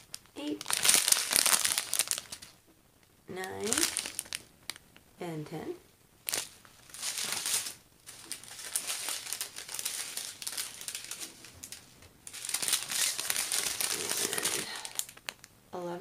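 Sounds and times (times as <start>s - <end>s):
plastic bags crinkling: 0.0s - 2.6s, 3.4s - 4.8s, 6.2s - 15.5s.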